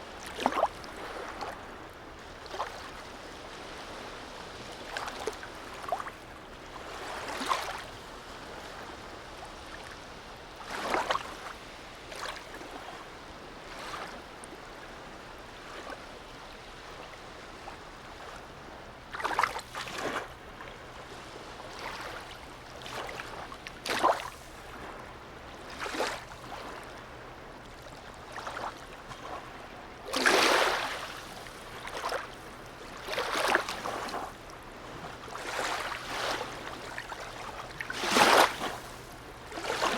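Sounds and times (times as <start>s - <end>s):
seawater lapping and splashing: 0.0s - 39.9s.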